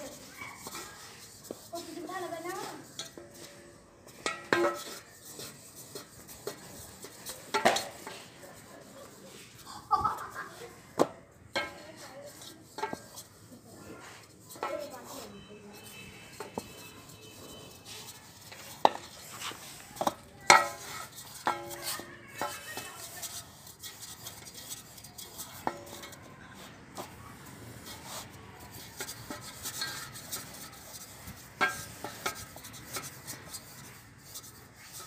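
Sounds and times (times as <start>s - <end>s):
rolling pin rubbing over dough: 0.0s - 10.9s, 11.5s - 35.0s.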